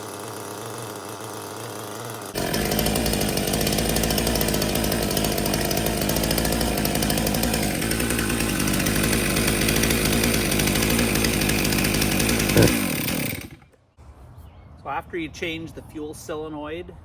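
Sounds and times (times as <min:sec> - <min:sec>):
chainsaw engine fast idle: 0:00.0 - 0:13.7.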